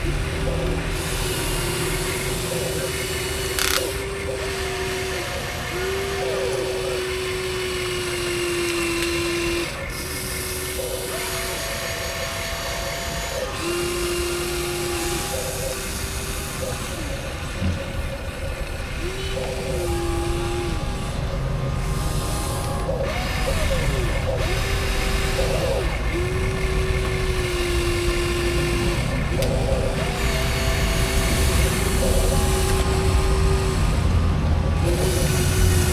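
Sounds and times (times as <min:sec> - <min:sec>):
constant rumble: 0:00.0 - 0:35.9
small electric motors whining: 0:00.0 - 0:35.9.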